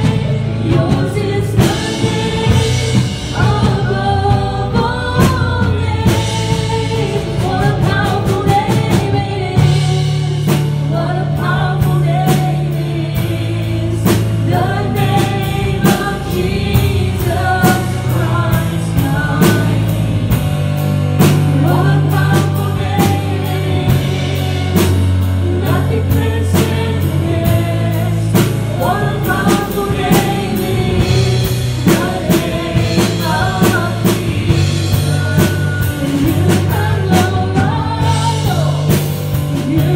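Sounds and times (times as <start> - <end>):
drum kit beat: 0.0 - 39.9
woman and man singing: 0.0 - 39.9.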